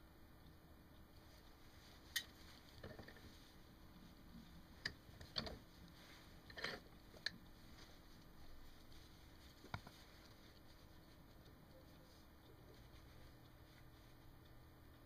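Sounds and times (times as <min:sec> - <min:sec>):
faint clicks and rustles of handling: 0:00.1 - 0:15.0.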